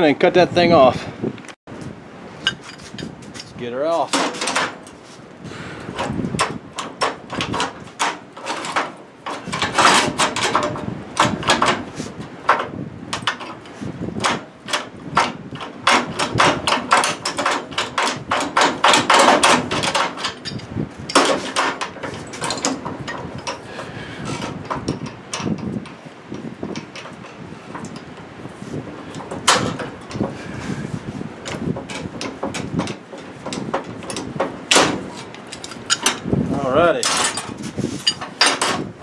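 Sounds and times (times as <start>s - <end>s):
pipe wrench clanking on steel: 2.4s - 5.0s, 5.9s - 28.2s, 29.0s - 30.8s, 31.4s - 38.9s.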